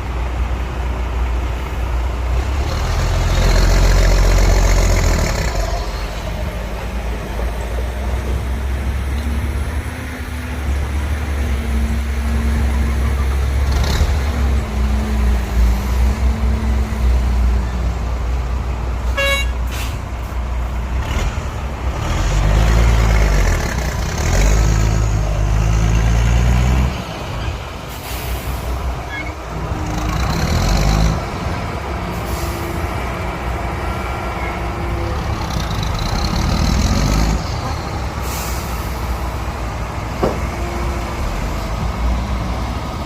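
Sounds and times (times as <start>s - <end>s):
heavy diesel engines rumbling: 0.0s - 43.0s.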